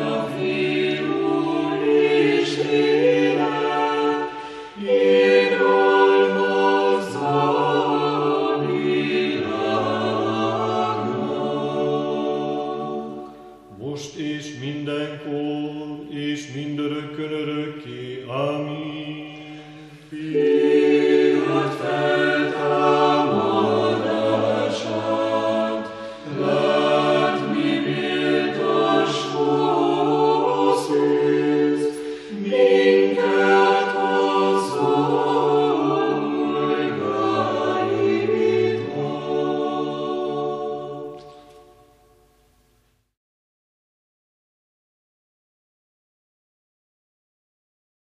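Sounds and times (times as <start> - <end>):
choir singing a cappella: 0.0 - 42.4.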